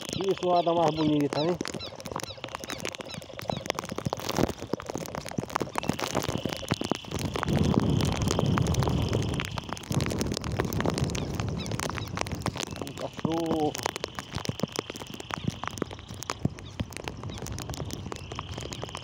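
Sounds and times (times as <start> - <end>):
frogs trilling: 0.0 - 19.0
low rumble on microphone: 0.0 - 19.0
rain drops tapping on phone: 0.0 - 19.0.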